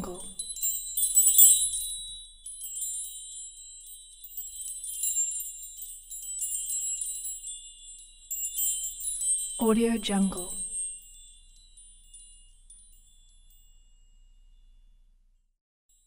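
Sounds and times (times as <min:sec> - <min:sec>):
metal wind chimes ringing: 0:00.0 - 0:15.2.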